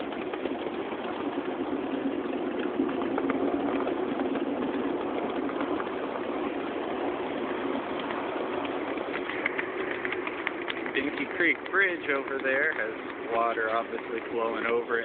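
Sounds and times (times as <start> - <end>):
miniature train running hum: 0.0 - 15.0
wheel clicks: 0.0 - 15.0.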